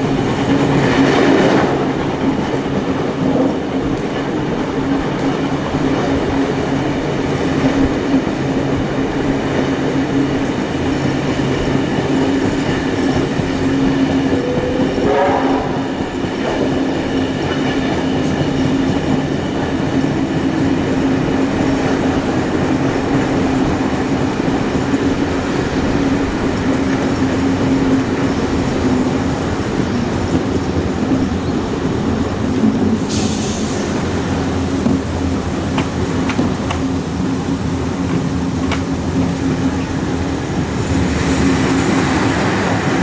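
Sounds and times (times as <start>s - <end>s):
rail noise: 0.0s - 43.0s
steam train drone: 0.0s - 43.0s.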